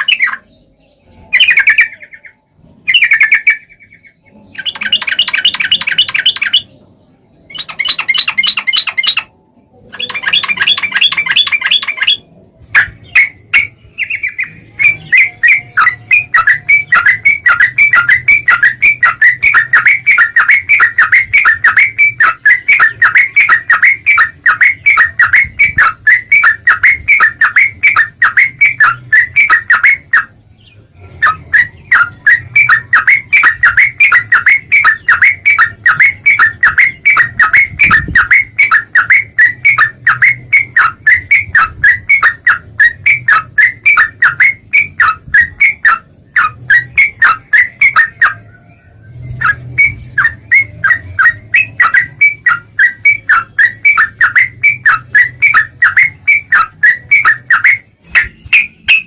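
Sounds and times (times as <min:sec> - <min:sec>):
bird whistling song: 0:00.0 - 0:59.0.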